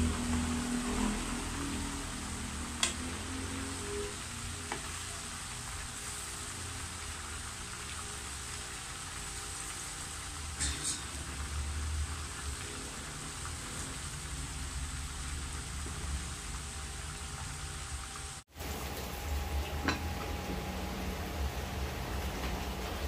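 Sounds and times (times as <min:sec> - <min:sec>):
oil sizzling and crackling: 0:00.0 - 0:23.0.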